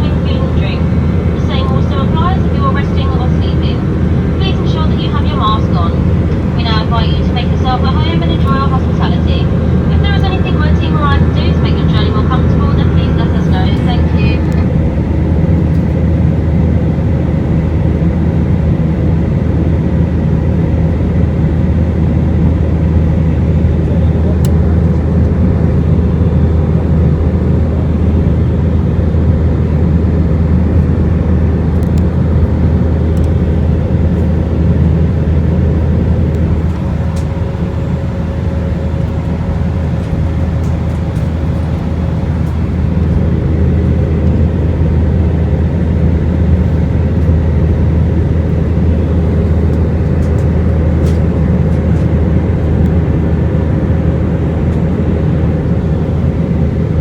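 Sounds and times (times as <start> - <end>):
airplane cabin engine hum: 0.0 - 57.0.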